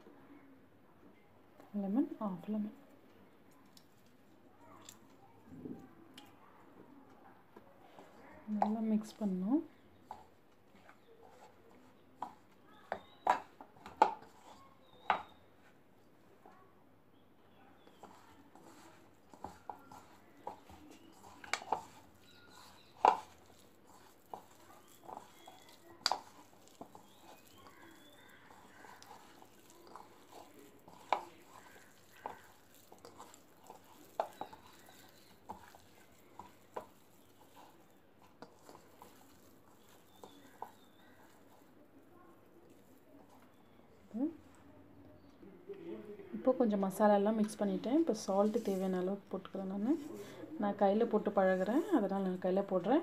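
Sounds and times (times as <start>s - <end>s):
hands squishing prawns in masala: 3.5s - 5.4s, 7.6s - 15.8s, 17.8s - 45.4s, 46.7s - 53.0s.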